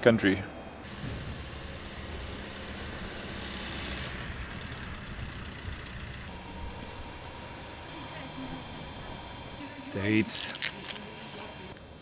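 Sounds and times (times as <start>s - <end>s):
road rumble: 0.9s - 12.0s.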